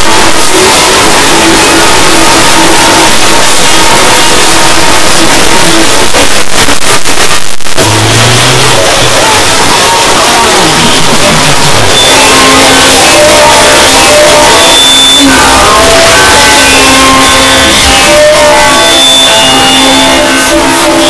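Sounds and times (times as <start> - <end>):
constant harsh hiss: 0.0 - 21.0
overlapping cartoon music: 0.0 - 21.0
scattered short notes: 0.0 - 21.0.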